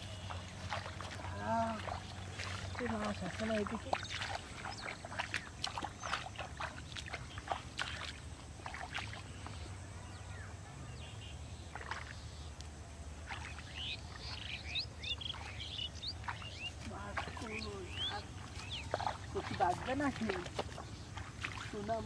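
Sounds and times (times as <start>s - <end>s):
shallow water splashing: 0.0s - 9.8s, 11.6s - 12.5s, 13.2s - 22.0s
birds chirping: 0.0s - 22.0s.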